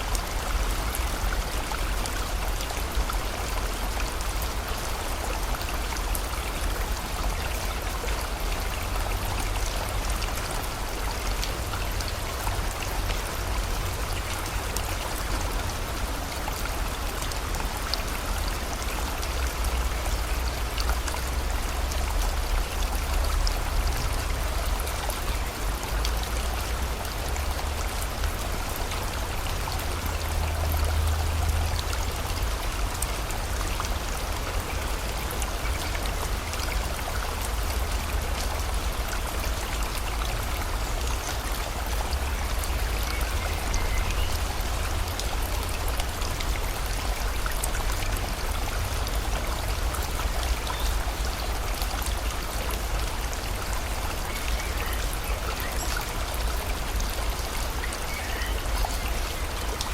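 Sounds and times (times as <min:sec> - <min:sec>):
rain falling: 0:00.0 - 0:59.9
river rushing: 0:00.0 - 0:59.9.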